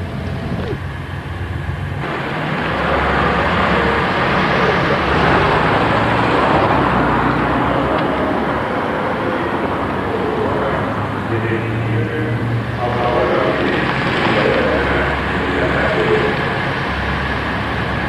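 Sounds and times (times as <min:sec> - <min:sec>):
road and wind noise: 0:00.0 - 0:18.0
vehicle engine hum: 0:00.0 - 0:18.0.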